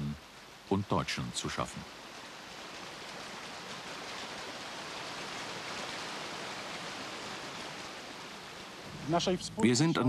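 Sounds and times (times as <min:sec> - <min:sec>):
river water rushing over weir: 0:00.4 - 0:10.0.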